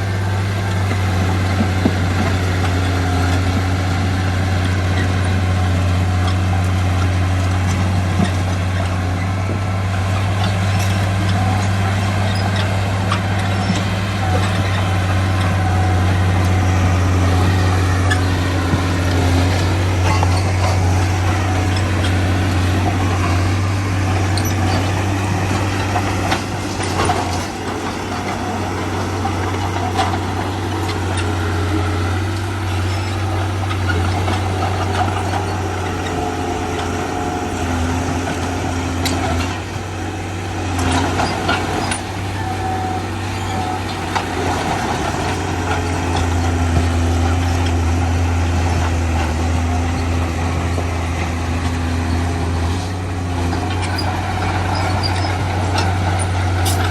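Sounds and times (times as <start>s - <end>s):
diesel machinery running: 0.0s - 56.9s.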